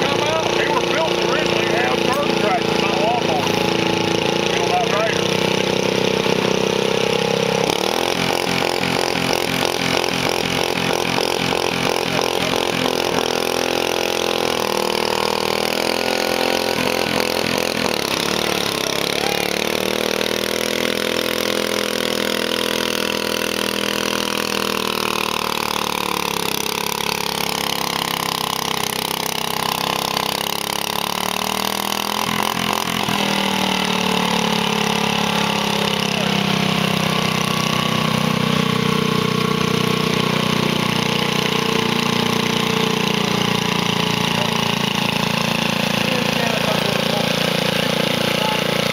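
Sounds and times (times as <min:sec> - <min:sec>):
garden tractor engine under load: 0:00.0 - 0:48.9.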